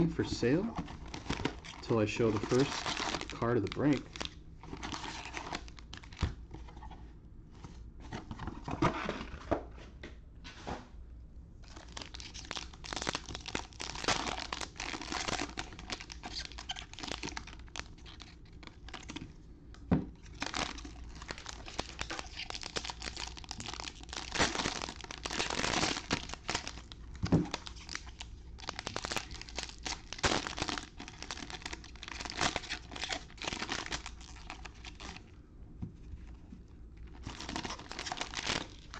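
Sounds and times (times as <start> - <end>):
plastic wrappers crinkling and tearing: 0.0 - 6.9, 11.6 - 19.4, 20.2 - 35.3, 37.0 - 38.9.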